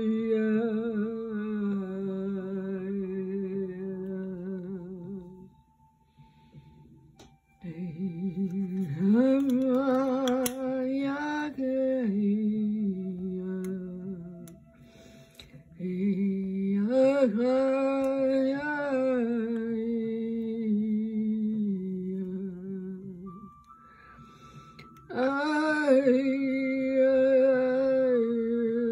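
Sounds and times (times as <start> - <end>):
woman singing wordless tones: 0.0 - 6.0, 7.5 - 23.8, 25.0 - 28.9.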